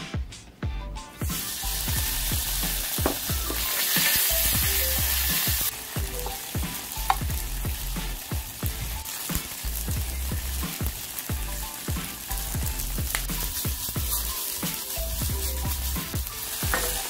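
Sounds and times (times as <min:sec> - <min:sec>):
tofu sizzling in oil: 0:01.2 - 0:17.0.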